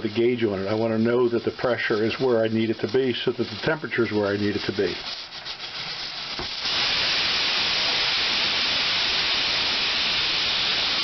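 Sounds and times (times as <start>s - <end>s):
pressure cooker venting steam: 0.0s - 11.0s.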